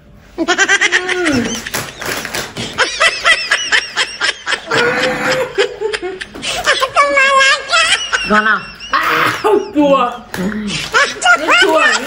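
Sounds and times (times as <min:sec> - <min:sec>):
person laughing: 0:00.4 - 0:12.0.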